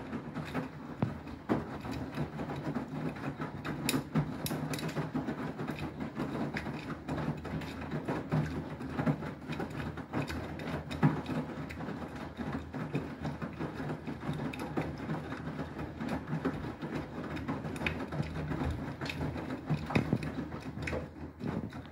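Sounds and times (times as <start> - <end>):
washing machine clicks and knocks: 0.0 - 21.9
washing machine drum churning: 0.0 - 21.9.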